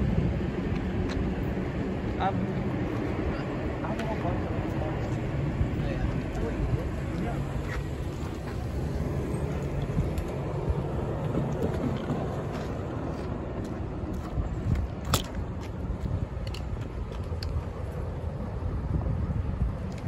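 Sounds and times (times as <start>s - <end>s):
low rumble of vehicles: 0.0s - 20.0s.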